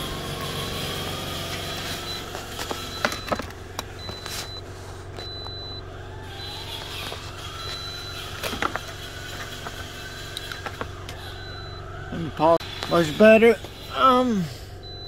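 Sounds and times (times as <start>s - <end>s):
steady low car hum: 0.0s - 15.0s.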